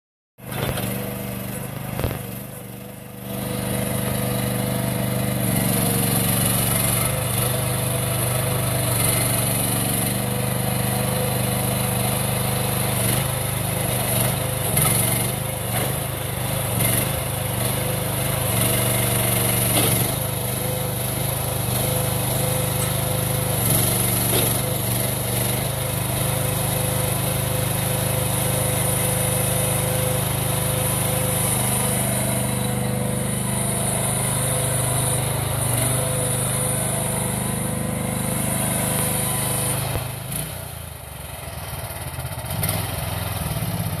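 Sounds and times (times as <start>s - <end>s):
small excavator engine running: 0.4s - 44.0s.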